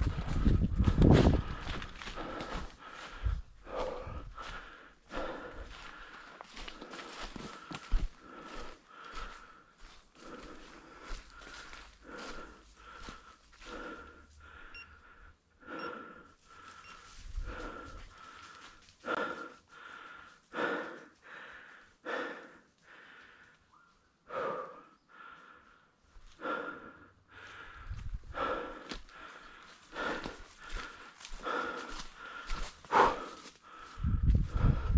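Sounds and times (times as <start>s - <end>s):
heavy wheezy breathing: 0.0s - 34.9s.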